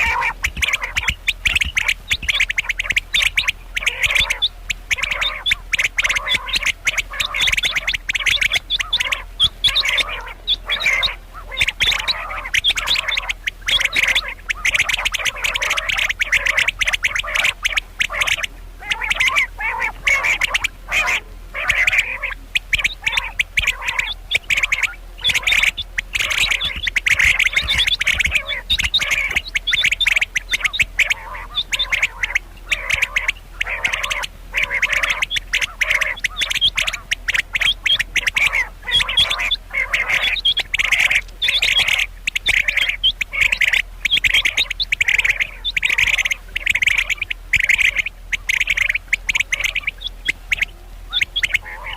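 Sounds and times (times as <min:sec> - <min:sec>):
quail calling: 0:00.0 - 0:51.9.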